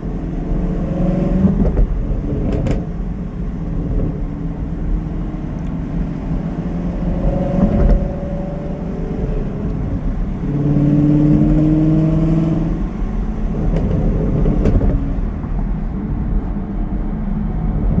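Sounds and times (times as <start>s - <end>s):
car engine revving: 0.0s - 16.7s
exhaust crackles and burbles: 0.8s - 18.0s.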